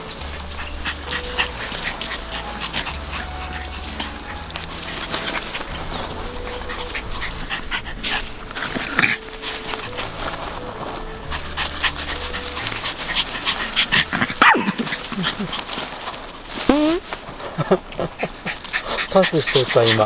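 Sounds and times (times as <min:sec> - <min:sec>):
dog panting: 0:00.0 - 0:20.0
dog whining: 0:00.0 - 0:20.0.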